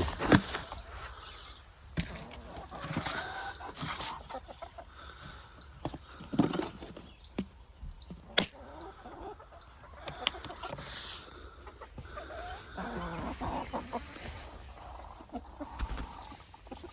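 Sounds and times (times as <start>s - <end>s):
hens clucking softly: 0.0s - 16.9s.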